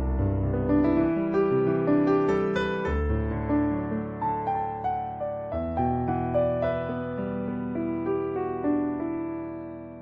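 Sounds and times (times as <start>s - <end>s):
gentle piano chords: 0.0s - 10.0s.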